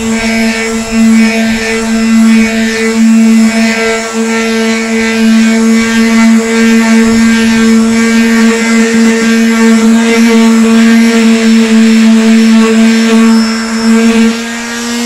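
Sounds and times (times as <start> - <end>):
electric sander humming: 0.0 - 15.0
sandpaper scrubbing metal: 0.0 - 15.0.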